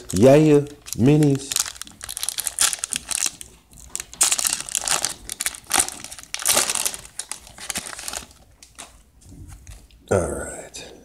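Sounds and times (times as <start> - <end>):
foil wrapper crinkling: 0.0 - 9.9.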